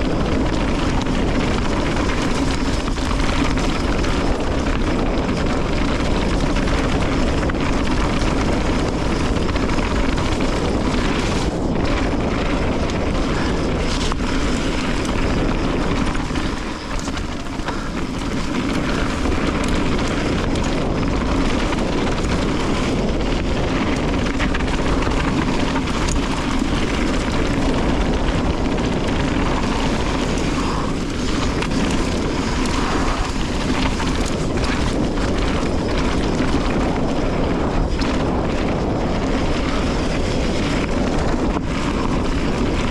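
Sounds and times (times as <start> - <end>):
bike rolling over dirt trail: 0.0 - 42.9
wind buffeting microphone: 0.0 - 42.9.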